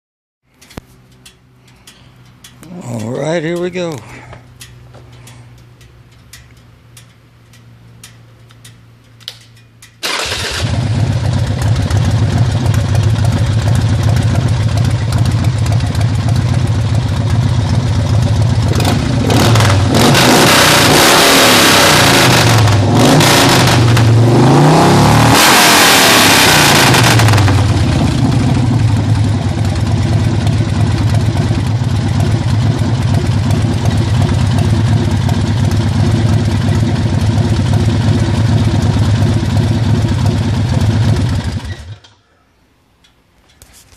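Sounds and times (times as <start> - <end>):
motorcycle engine idling and revving: 0.5 - 42.2.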